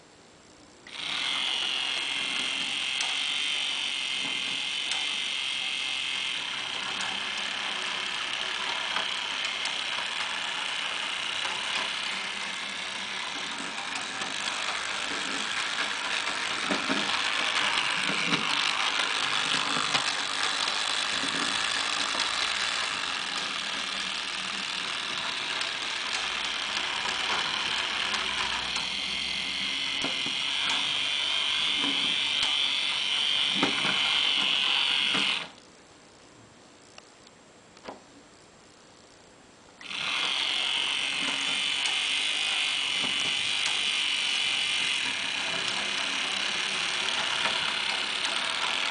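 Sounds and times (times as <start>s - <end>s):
model streetcar motors whirring: 0.9s - 35.6s, 39.8s - 48.9s.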